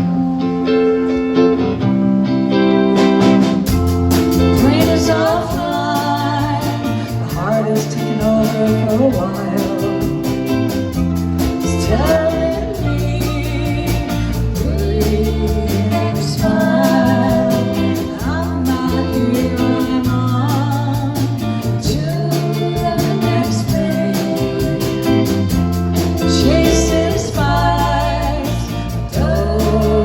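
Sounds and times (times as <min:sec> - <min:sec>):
guitar: 0:00.0 - 0:30.0
live band playing: 0:00.0 - 0:30.0
person singing: 0:04.4 - 0:30.0.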